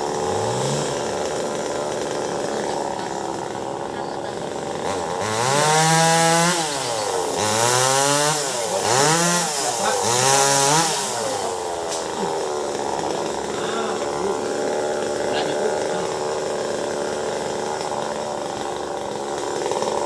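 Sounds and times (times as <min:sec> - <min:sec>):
chainsaw engine revving and idling: 0:00.0 - 0:20.0.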